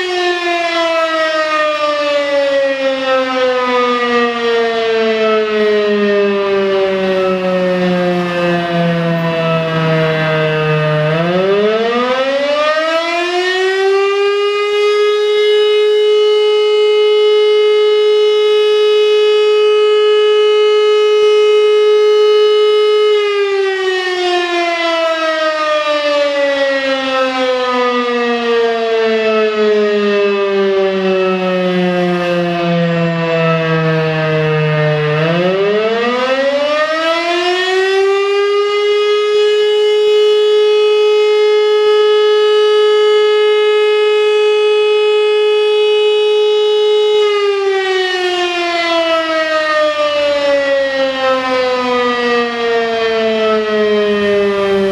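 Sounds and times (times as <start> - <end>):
air-raid siren wailing: 0.0 - 54.9.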